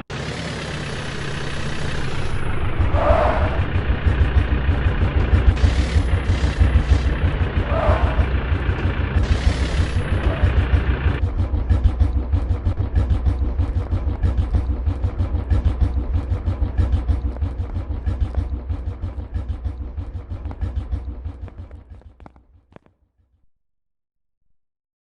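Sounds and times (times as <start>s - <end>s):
tractor diesel engine running: 0.0s - 22.8s.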